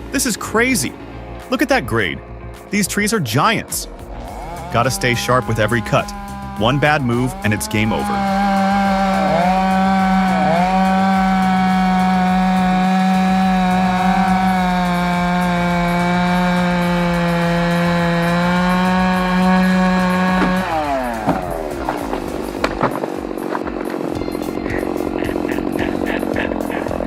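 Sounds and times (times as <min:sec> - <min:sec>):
chainsaw cutting tree: 0:03.8 - 0:27.0
chainsaw engine winding down: 0:03.8 - 0:27.0.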